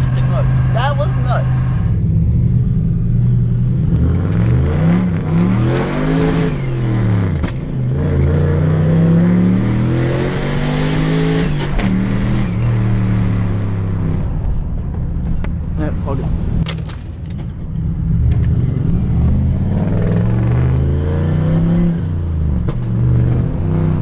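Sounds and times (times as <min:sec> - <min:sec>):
car engine accelerating: 0:00.0 - 0:16.6, 0:17.6 - 0:24.0.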